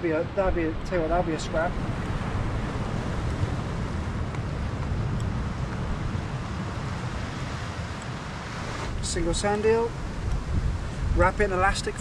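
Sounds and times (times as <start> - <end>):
surf washing on rocks: 0.0 - 12.0
wind buffeting microphone: 0.0 - 12.0.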